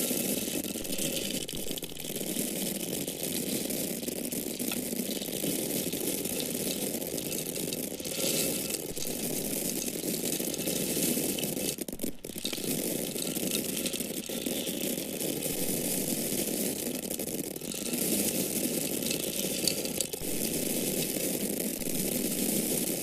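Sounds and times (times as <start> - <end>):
dry corn kernels rattling: 0.0 - 23.0.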